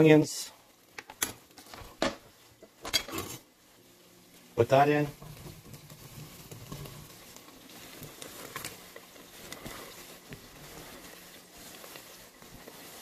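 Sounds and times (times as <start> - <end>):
onion sizzling in butter: 0.0 - 13.0.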